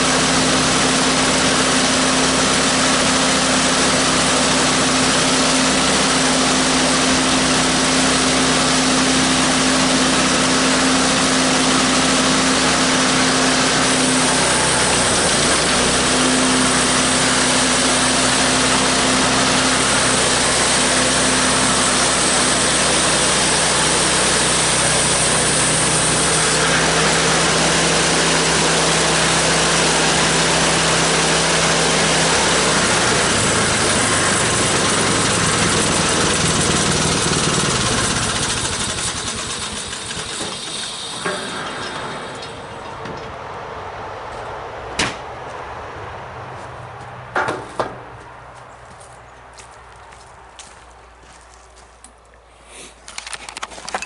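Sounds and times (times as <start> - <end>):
sawmill engine running: 0.0 - 45.6.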